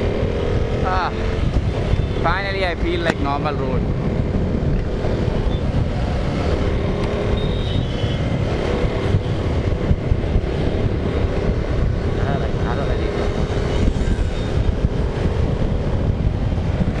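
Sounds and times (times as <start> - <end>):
road noise: 0.0 - 17.0
wind noise: 0.0 - 17.0.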